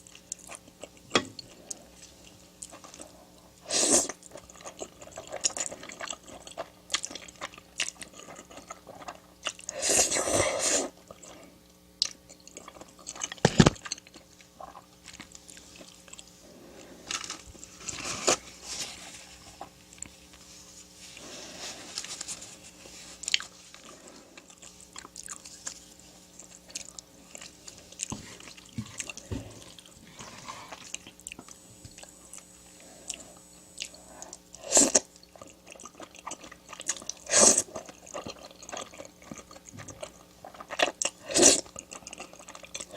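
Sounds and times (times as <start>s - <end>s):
chewing and crunching food: 0.0s - 42.9s.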